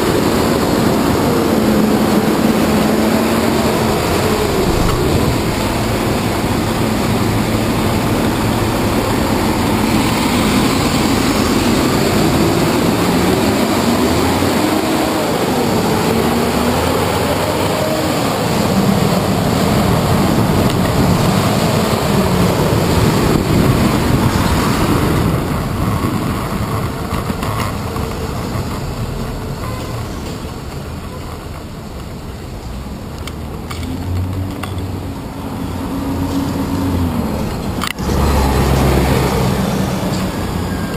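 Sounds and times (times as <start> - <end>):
buses running and idling: 0.0 - 40.9.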